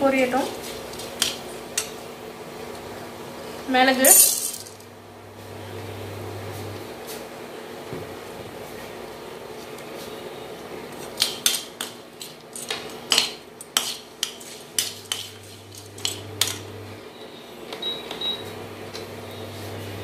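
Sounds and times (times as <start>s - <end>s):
induction cooktop hum: 0.0s - 20.0s.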